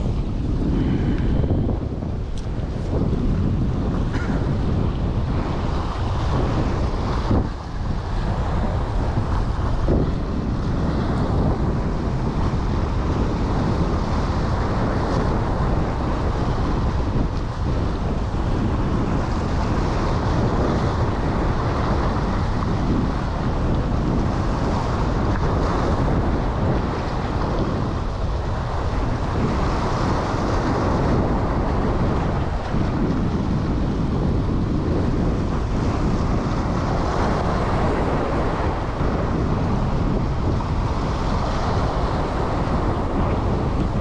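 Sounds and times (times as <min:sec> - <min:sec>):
wind blowing across microphone: 0:00.0 - 0:44.0.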